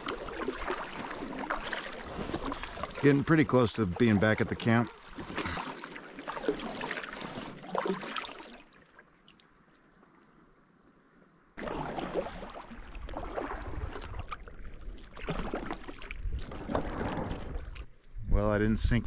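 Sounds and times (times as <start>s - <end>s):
paddle strokes splashing: 0.0s - 9.4s, 11.6s - 18.0s
water lapping against canoe: 0.0s - 10.6s, 11.6s - 18.2s.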